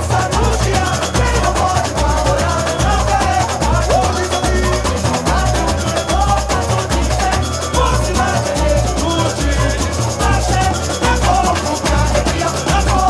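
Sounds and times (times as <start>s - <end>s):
bass drum beat: 0.0s - 13.0s
person singing: 0.0s - 13.0s
shakers and percussion: 0.0s - 13.0s.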